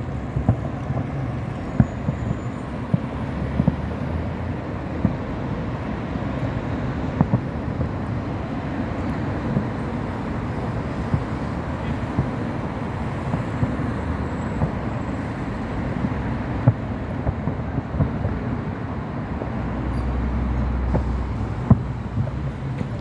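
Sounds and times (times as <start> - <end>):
distant fireworks popping: 0.0 - 23.0
low outdoor rumble: 0.0 - 23.0.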